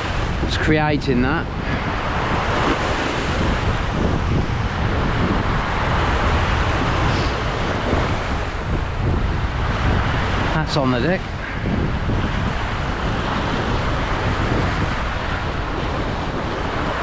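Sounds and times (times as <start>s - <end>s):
sea waves washing against rocks: 0.0s - 17.0s
wind buffeting microphone: 0.0s - 17.0s.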